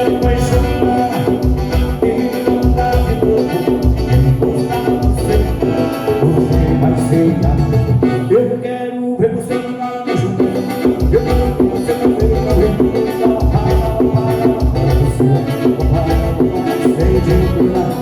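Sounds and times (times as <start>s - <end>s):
shaker percussion: 0.0s - 8.2s, 10.4s - 18.0s
bass beat: 0.0s - 8.4s, 10.4s - 18.0s
live band music: 0.0s - 18.0s.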